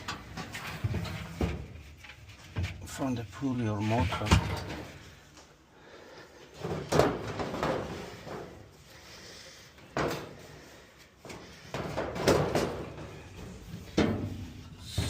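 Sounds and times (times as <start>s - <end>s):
dryer parts clunking and rattling: 0.0s - 15.0s.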